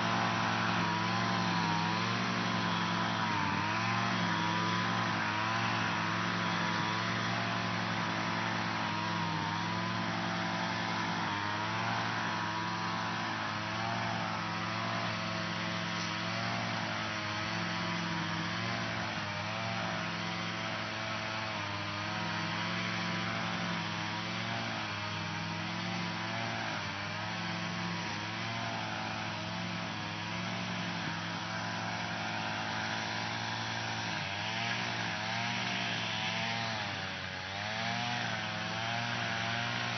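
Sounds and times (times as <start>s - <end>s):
lawn mower running: 0.0s - 39.9s.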